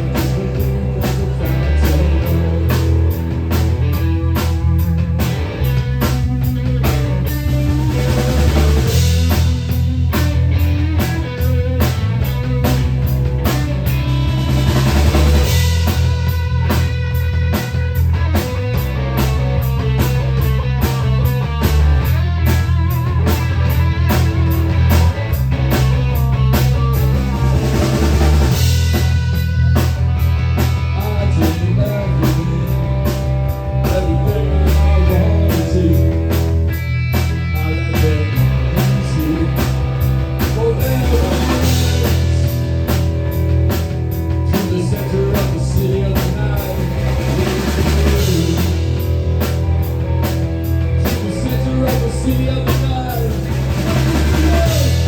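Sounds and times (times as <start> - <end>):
rock music: 0.0 - 55.0.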